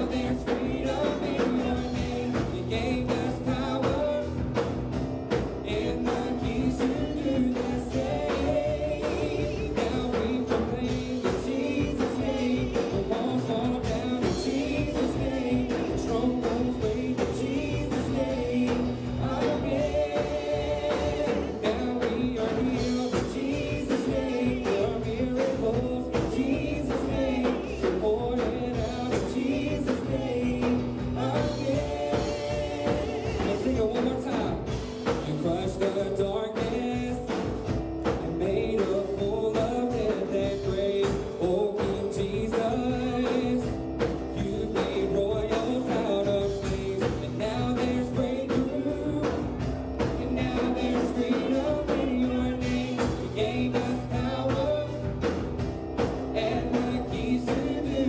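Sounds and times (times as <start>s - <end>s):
electric bass: 0.0s - 58.0s
keyboards: 0.0s - 58.0s
steady drum beat: 0.0s - 58.0s
vocalists singing: 0.0s - 58.0s.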